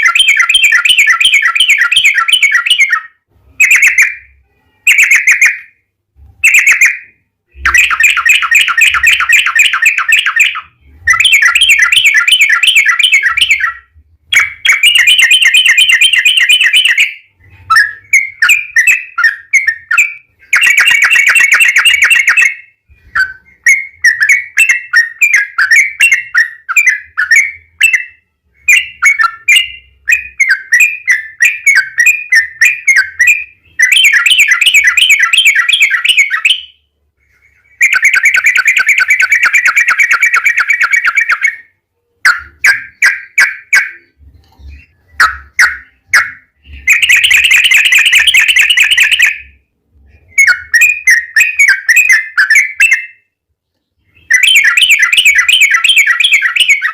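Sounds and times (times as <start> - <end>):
bulbul singing bubbling song: 6.4 - 53.4.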